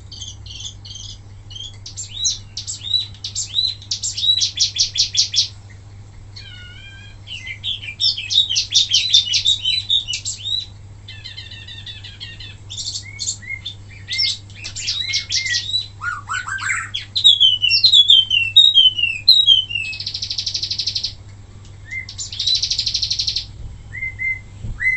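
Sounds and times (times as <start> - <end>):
songbird singing: 0.0 - 24.9.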